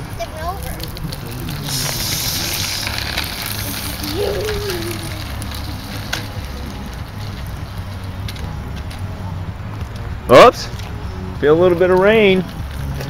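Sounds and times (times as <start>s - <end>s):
plastic wheels rolling on asphalt: 0.0s - 13.0s.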